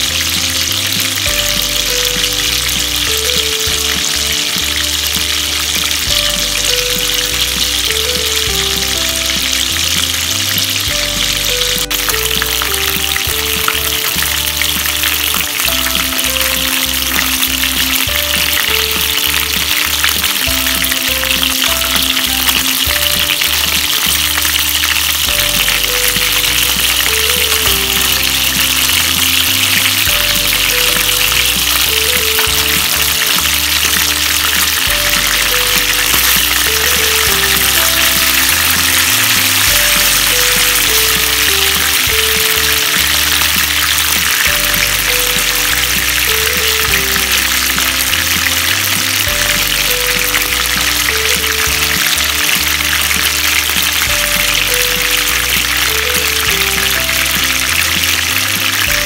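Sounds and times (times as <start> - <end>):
background music: 0.0 - 59.0
chicken wings sizzling in oil: 0.0 - 59.0.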